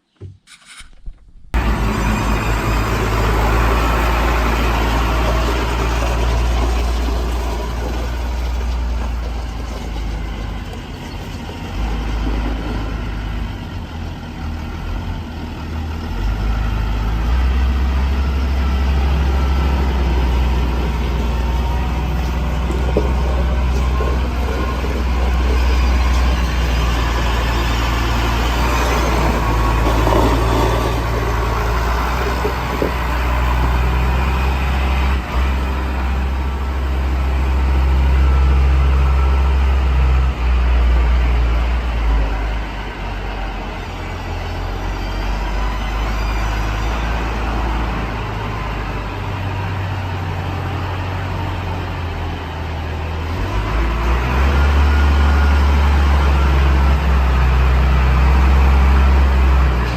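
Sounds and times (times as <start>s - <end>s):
diesel tractor engine running: 1.4s - 59.9s.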